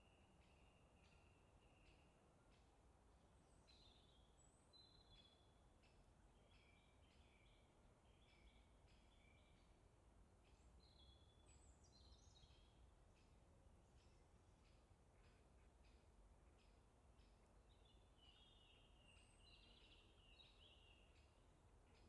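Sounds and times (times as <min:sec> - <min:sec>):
faint birdsong chirps and whistles: 0:00.0 - 0:22.0.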